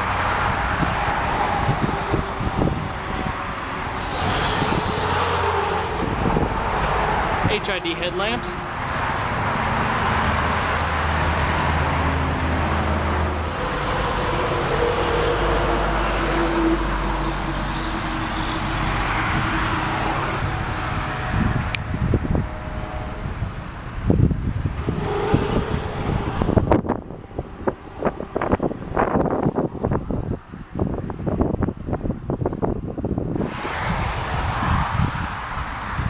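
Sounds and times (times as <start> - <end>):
motor vehicle rumble: 0.0 - 36.0
wind buffeting microphone: 0.0 - 36.0.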